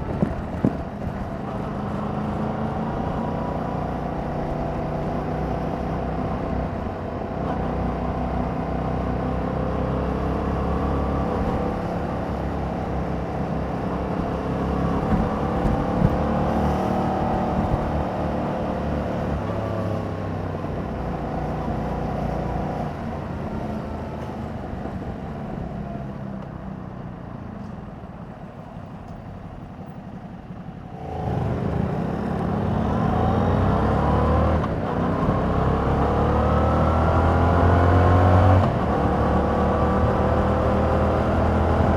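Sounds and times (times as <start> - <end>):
motorcycle engine while riding: 0.0 - 41.9.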